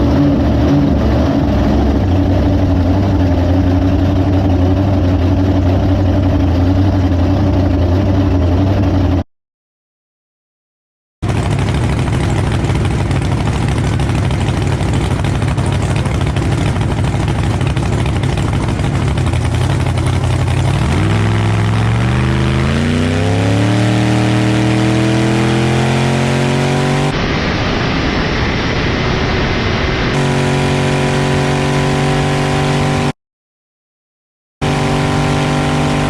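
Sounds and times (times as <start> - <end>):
truck engine rumbling: 0.0 - 9.2, 11.2 - 33.1.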